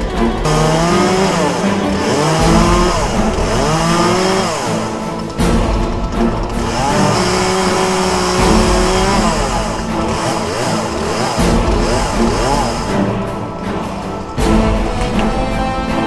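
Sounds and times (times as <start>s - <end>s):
background music: 0.0s - 16.0s
chainsaw cutting tree trunk: 0.3s - 15.7s.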